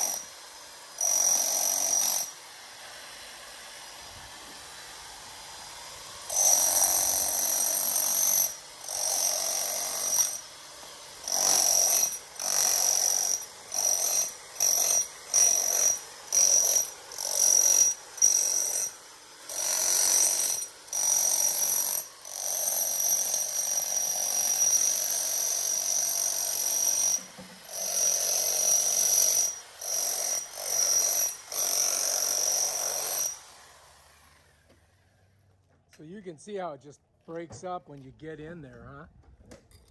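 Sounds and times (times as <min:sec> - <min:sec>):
electric jackhammer chipping plaster: 0:00.0 - 0:35.1.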